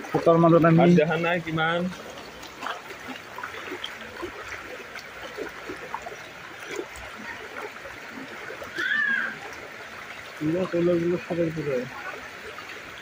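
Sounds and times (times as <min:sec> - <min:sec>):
floodwater streaming across road: 0:00.0 - 0:13.0
water gurgling and splashing: 0:00.0 - 0:13.0.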